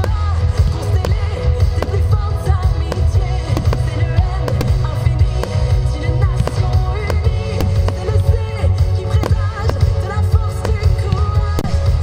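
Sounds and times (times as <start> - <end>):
fireworks popping: 0.0 - 12.0
loud bass-heavy music: 0.0 - 12.0.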